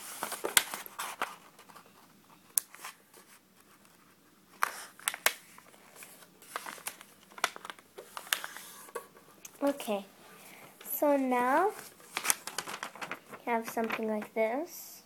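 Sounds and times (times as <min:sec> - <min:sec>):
paper folding and creasing: 0:00.0 - 0:09.8, 0:11.0 - 0:14.3.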